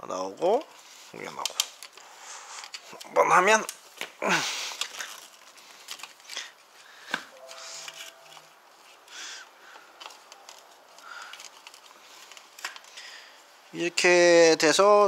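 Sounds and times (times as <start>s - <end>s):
light clicks and rustles of wire: 0.3s - 13.2s.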